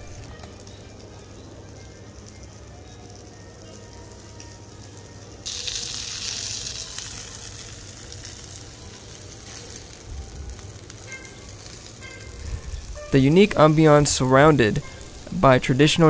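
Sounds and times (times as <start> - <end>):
meat sizzling on grill: 0.0 - 16.0.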